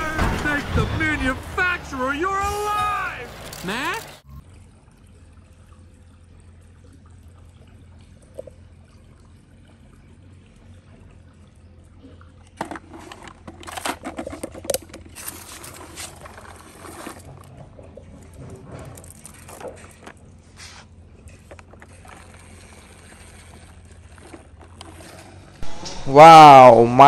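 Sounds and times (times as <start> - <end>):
water splashing and trickling: 0.0 - 25.6
low steady hum: 0.0 - 27.0.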